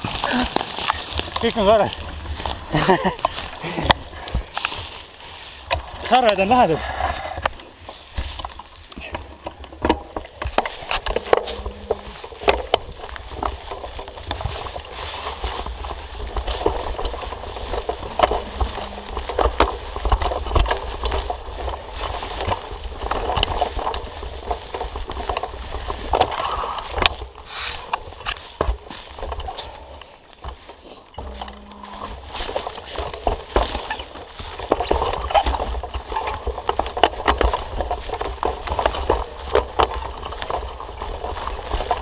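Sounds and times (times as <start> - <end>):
bike rattling and clicking: 0.0 - 42.0
bike tyres over leaves and twigs: 0.0 - 42.0.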